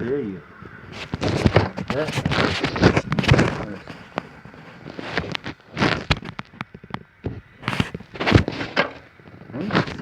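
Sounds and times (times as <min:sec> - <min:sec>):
gusty wind: 0:00.0 - 0:10.0
fire crackles and pops: 0:00.6 - 0:10.0.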